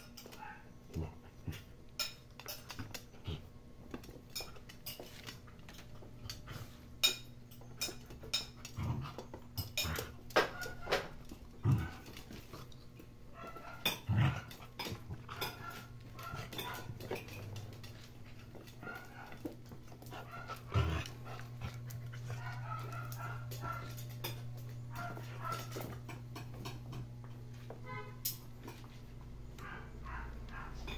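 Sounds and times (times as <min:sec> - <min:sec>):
low steady hum: 0:00.0 - 0:30.9
paws scuffling on tiles: 0:00.0 - 0:30.9.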